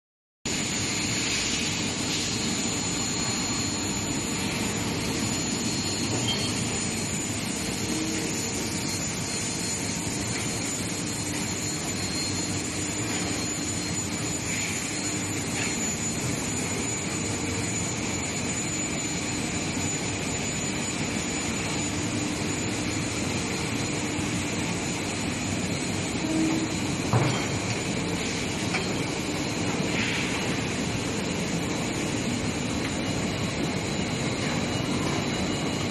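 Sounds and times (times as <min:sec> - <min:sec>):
high-pitched whine: 0:00.5 - 0:35.9
steady industrial noise: 0:00.5 - 0:35.9.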